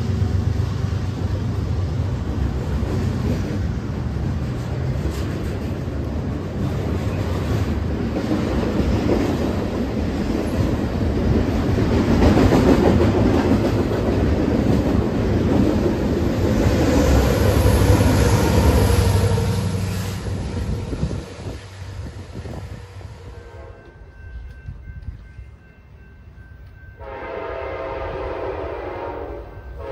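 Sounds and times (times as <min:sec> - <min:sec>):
train wheels clattering on track: 0:00.0 - 0:25.6.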